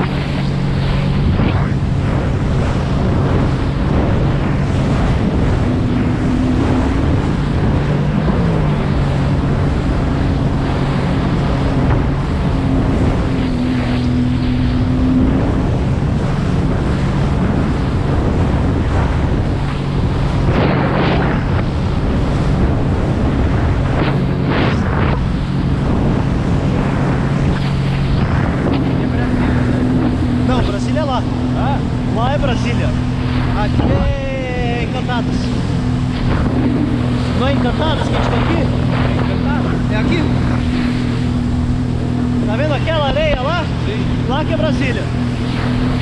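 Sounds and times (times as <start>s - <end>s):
jet ski engine running: 0.0s - 46.0s
wind rushing over microphone: 0.0s - 46.0s.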